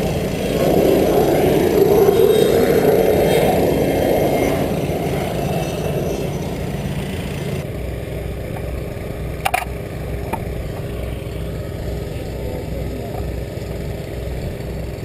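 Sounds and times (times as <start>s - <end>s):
loud rushing engine drone: 0.0s - 15.0s
low engine hum: 0.0s - 15.0s.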